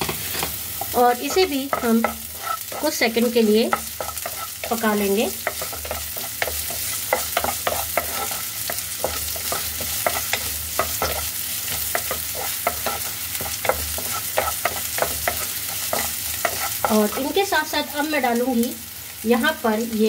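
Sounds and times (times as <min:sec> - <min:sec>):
spatula scraping and knocking pan: 0:00.0 - 0:17.5
vegetables sizzling in hot oil: 0:00.0 - 0:20.0.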